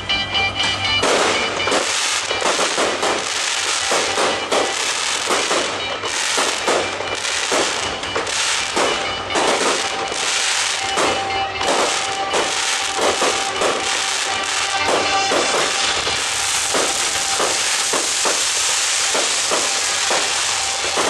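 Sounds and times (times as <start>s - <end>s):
fireworks bursting: 0.0s - 21.0s
show music: 0.0s - 21.0s.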